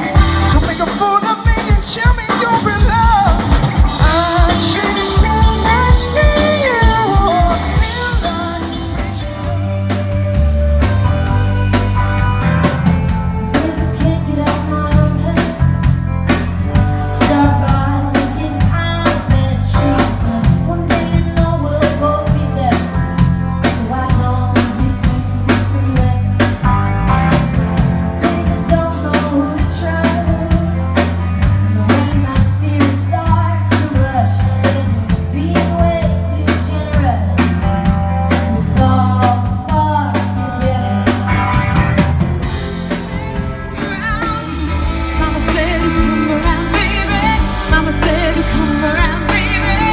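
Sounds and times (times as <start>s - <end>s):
person singing: 0.0s - 11.4s, 12.9s - 16.1s, 16.8s - 26.8s, 28.0s - 37.7s, 38.3s - 41.7s, 42.6s - 49.9s
bass and electric guitars: 0.0s - 49.9s
drum kit beat: 0.0s - 49.9s.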